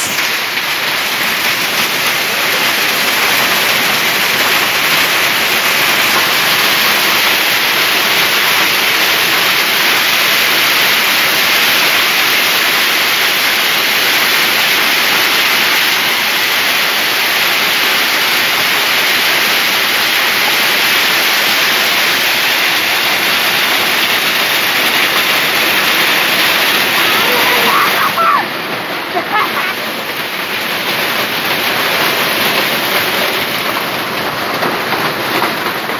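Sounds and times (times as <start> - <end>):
hail and rain on concrete: 0.0 - 35.9.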